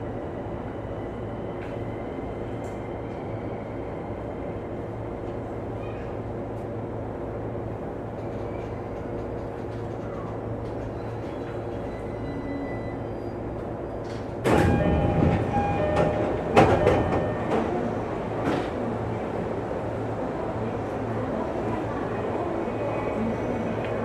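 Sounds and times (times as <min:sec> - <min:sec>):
low hum of train equipment: 0:00.0 - 0:24.0.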